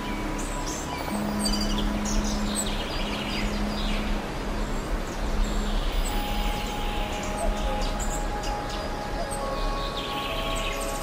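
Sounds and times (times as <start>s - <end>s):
birds singing and chirping: 0.0s - 11.0s
steady background rush: 0.0s - 11.0s.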